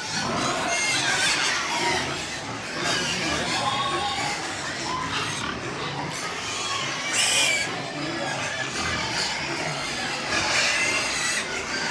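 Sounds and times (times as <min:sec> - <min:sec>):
farmyard noise: 0:00.0 - 0:11.9
pigs grunting and squealing: 0:00.0 - 0:11.9.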